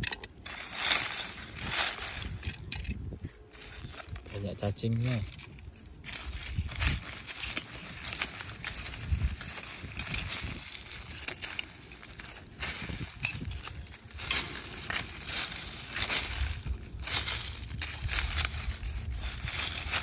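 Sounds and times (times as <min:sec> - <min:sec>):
dry leaves rustling: 0:00.0 - 0:20.0
trowel digging into soil: 0:03.4 - 0:20.0.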